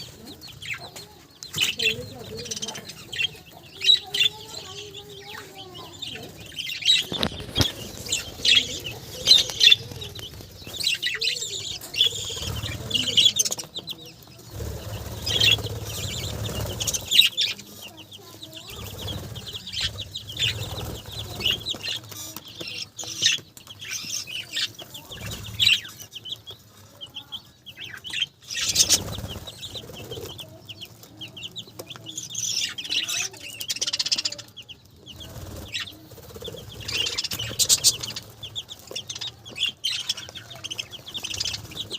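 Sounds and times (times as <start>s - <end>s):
budgerigars chirping: 0.0s - 41.9s.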